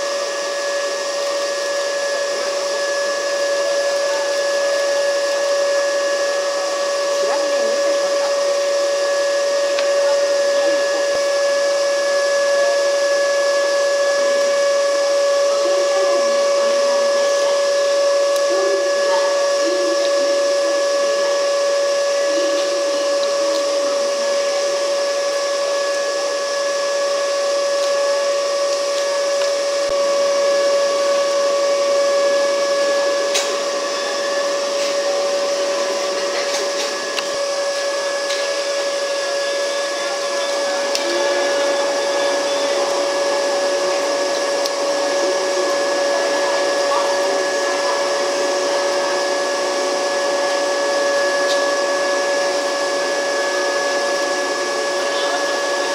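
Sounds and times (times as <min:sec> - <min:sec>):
train machinery whirring hiss: 0:00.0 - 0:55.9.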